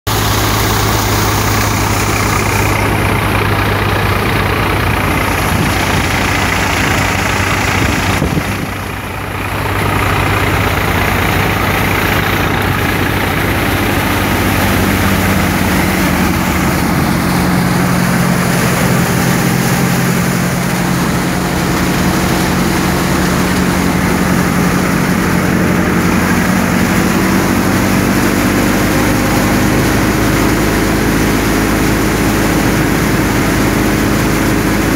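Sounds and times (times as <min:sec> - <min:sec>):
tractor engine: 0:00.0 - 0:34.9
thresher machine drone: 0:00.1 - 0:34.9.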